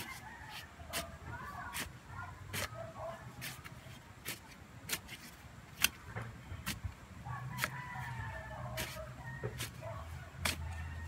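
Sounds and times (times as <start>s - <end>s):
spade digging into soil: 0.0s - 6.9s, 7.5s - 11.0s.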